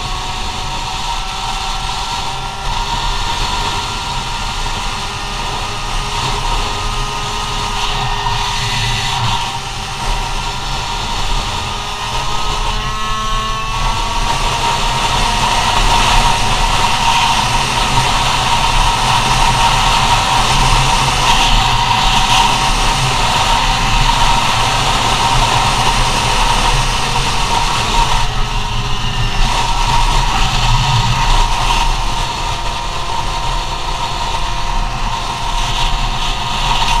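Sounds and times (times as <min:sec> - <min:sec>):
road noise: 0:00.0 - 0:37.0
small two-stroke scooter engine: 0:00.0 - 0:37.0
wind noise: 0:00.0 - 0:37.0.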